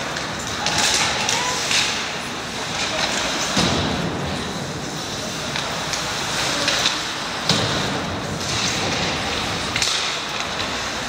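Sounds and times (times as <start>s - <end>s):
hockey sticks and puck clacking: 0.0s - 11.0s
skate blades scraping ice: 0.0s - 11.0s.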